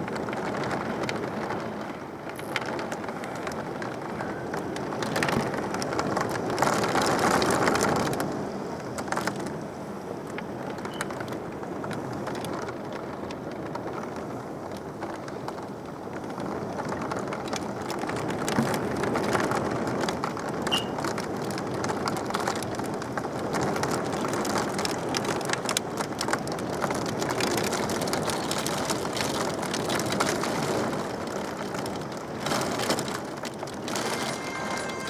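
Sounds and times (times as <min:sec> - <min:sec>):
raindrops ticking: 0:00.0 - 0:09.6, 0:10.2 - 0:35.0.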